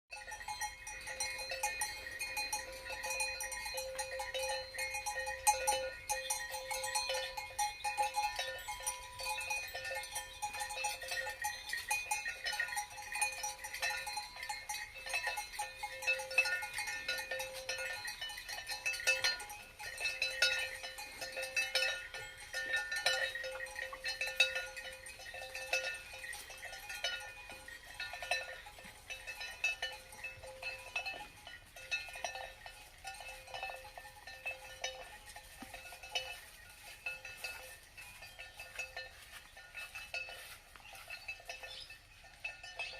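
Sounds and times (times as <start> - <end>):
cowbells clanking: 0.1 - 42.9.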